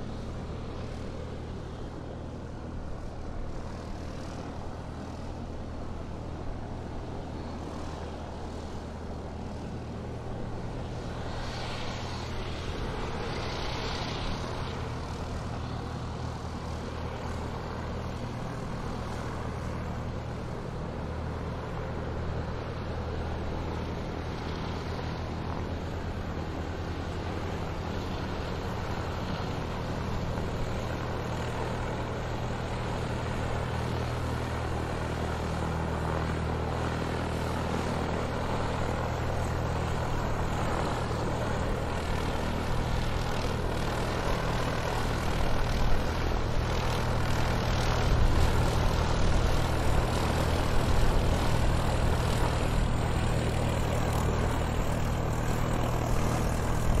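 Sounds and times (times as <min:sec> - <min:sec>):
airplane engine humming: 0:00.0 - 0:57.0
broad rushing noise: 0:00.0 - 0:57.0.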